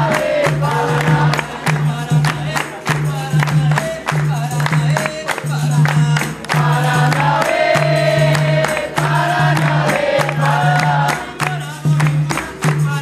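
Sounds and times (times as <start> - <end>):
berimbaus and pandeiros playing rhythm: 0.0 - 13.0
group of voices singing: 0.0 - 13.0.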